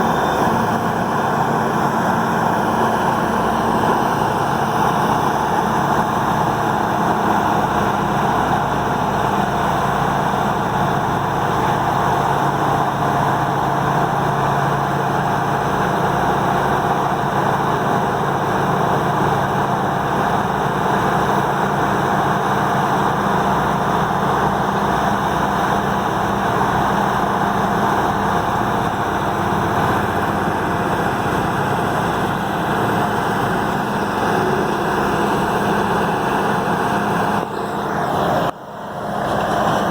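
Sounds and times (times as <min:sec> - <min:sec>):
grinder diesel engine drone: 0:00.0 - 0:39.9.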